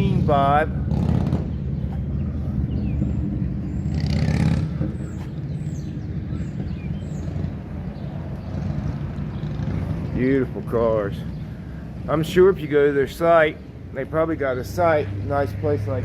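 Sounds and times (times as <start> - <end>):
small birds chirping: 0.0 - 16.0
vehicle engine rumbling: 0.0 - 16.0.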